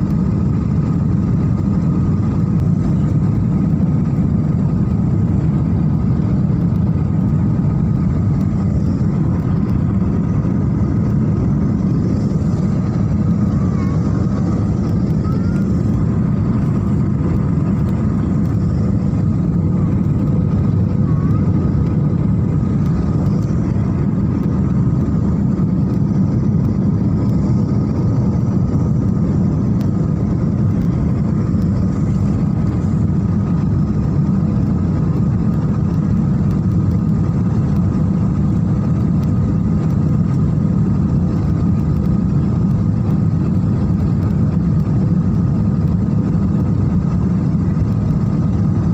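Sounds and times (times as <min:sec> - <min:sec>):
airliner cabin engine rumble: 0:00.0 - 0:48.9
faint steady hum: 0:00.0 - 0:48.9.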